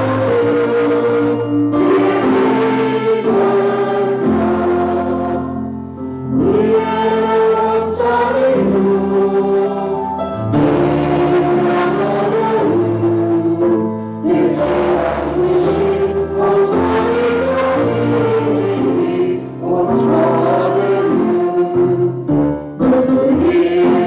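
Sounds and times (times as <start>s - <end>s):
voices singing a hymn: 0.0s - 24.0s.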